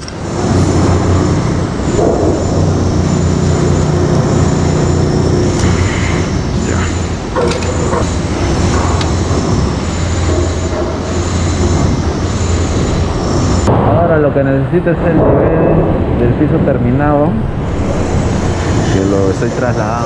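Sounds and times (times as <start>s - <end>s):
loud low machine drone: 0.0s - 20.0s.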